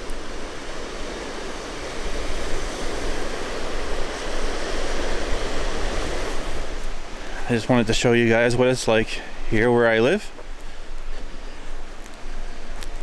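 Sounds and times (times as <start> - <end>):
waves washing onto shore: 0.0 - 13.0
wind buffeting microphone: 0.0 - 13.0.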